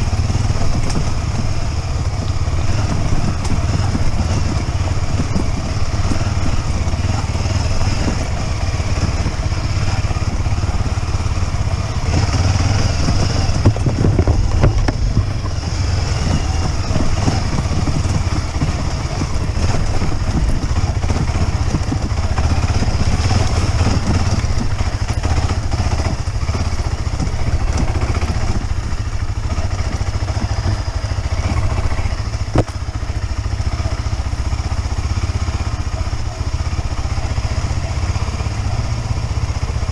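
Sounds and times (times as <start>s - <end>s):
motorcycle engine running: 0.0s - 39.9s
ride noise: 0.0s - 39.9s.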